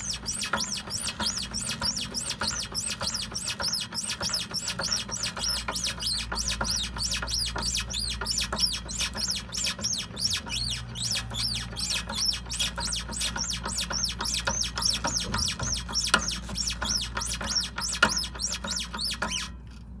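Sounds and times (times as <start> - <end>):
rapid rhythmic squeaking: 0.0 - 20.0
steady low hum: 0.0 - 20.0.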